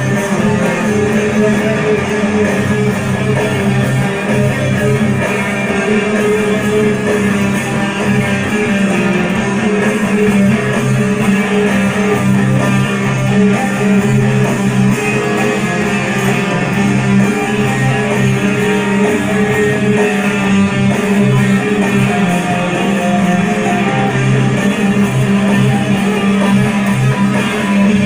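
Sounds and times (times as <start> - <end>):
hard rock guitar riff: 0.0 - 28.0.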